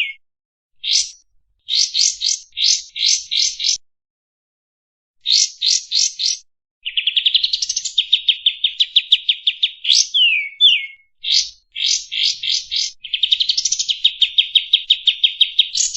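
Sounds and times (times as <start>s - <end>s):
bird trilling and whistling: 0.0s - 0.2s, 0.8s - 3.8s, 5.2s - 15.9s.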